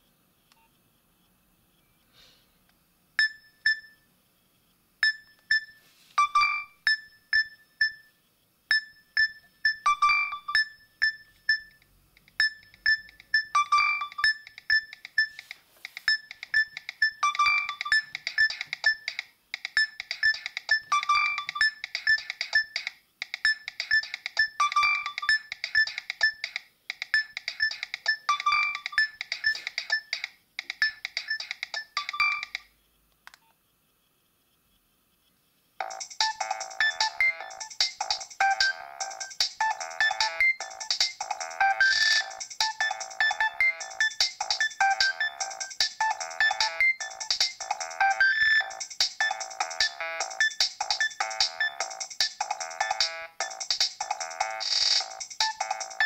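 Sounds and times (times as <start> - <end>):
mobile phone ringtone beeping melody: 5.0 - 8.1, 8.7 - 11.8, 12.4 - 19.2, 19.8 - 22.9, 23.5 - 26.6, 27.2 - 32.6, 35.8 - 56.0.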